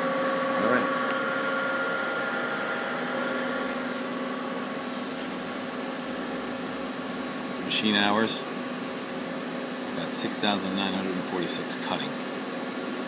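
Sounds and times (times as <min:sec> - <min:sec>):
lathe machine hum and whine: 0:00.0 - 0:13.0.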